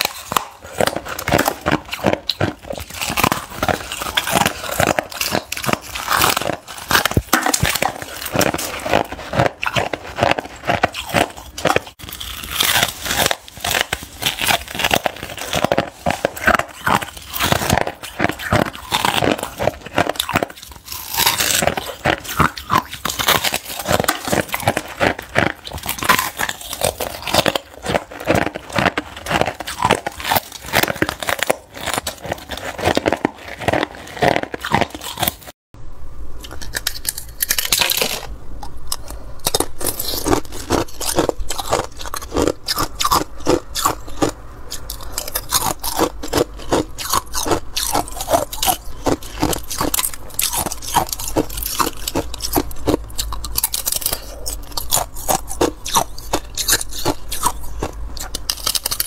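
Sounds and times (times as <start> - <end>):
ice being chewed: 0.0 - 35.6, 36.4 - 59.0.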